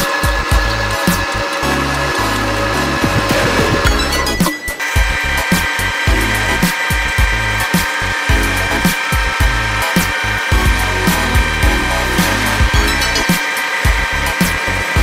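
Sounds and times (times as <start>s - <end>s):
lathe drilling metal whine: 0.0s - 15.0s
music with steady beat: 0.0s - 15.0s.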